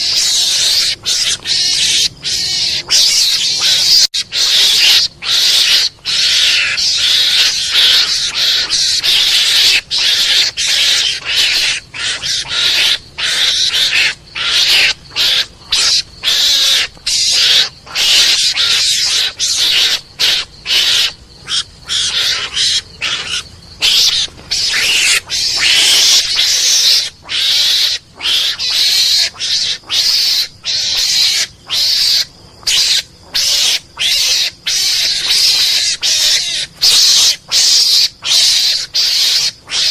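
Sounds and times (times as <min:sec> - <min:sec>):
mongoose hissing chatter: 0:00.0 - 0:39.9.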